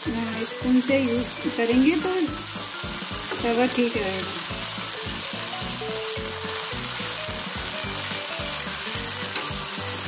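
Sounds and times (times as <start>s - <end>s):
bread sizzling in a pan: 0.0s - 10.0s.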